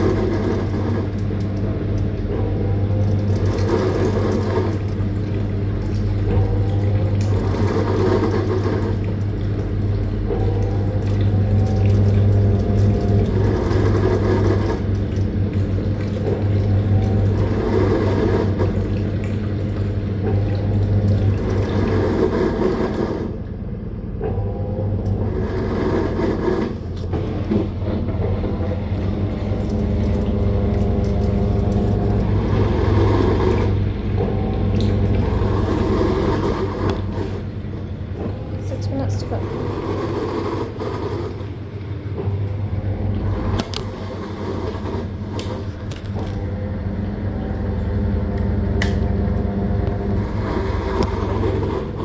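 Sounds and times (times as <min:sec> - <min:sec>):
washing machine running: 0:00.0 - 0:52.0.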